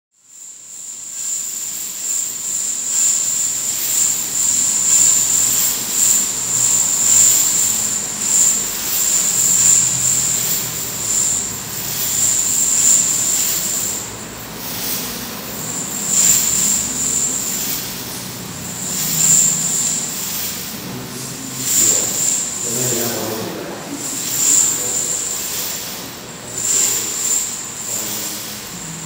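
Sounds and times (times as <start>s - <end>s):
small bells jingling: 0.4s - 29.0s.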